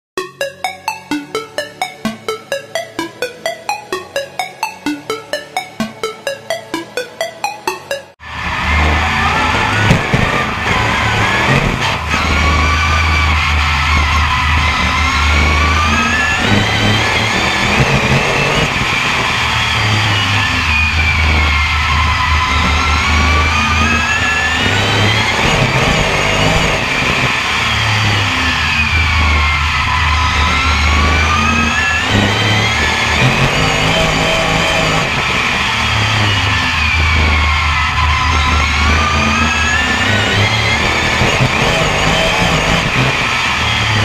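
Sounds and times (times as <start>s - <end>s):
race car engine at full power: 8.2s - 44.0s.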